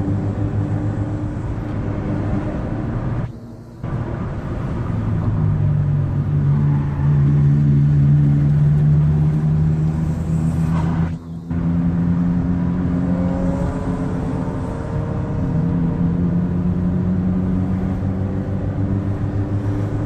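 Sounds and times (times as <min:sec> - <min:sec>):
car engine from inside cabin: 0:00.0 - 0:20.0
tyre and road noise: 0:00.0 - 0:20.0.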